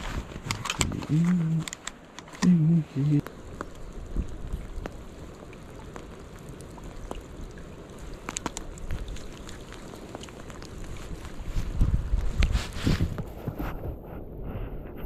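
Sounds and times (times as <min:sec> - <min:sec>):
rain falling: 0:00.0 - 0:13.3
raindrops ticking nearby: 0:00.0 - 0:13.8.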